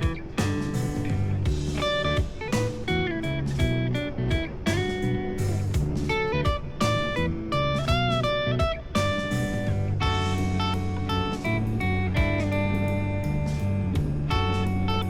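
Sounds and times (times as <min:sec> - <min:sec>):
guitar music with bass line: 0:00.0 - 0:15.0.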